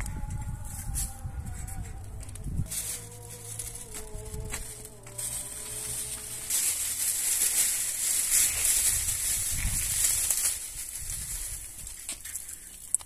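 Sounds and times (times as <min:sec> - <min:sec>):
plastic bag rustling: 0:00.8 - 0:12.9.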